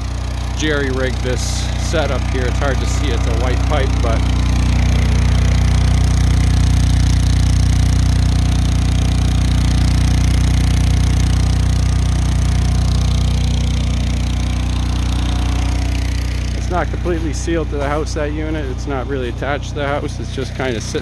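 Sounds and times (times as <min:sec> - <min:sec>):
portable generator engine running: 0:00.0 - 0:21.0.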